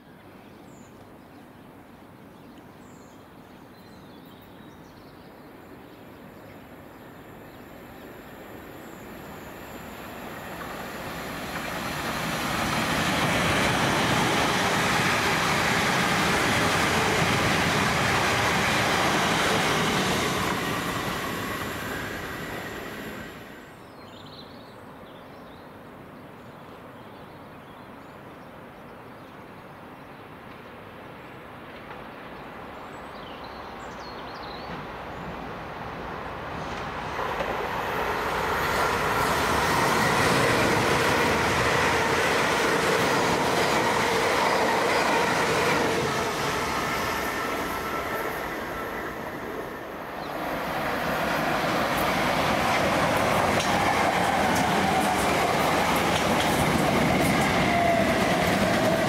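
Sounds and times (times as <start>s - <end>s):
train passing with wheel noise: 5.5s - 24.1s, 29.4s - 59.0s.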